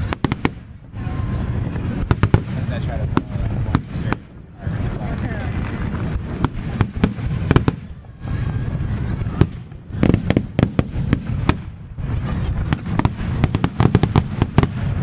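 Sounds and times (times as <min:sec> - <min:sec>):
fireworks bangs and crackles: 0:00.0 - 0:15.0
low booming rumble: 0:00.0 - 0:15.0.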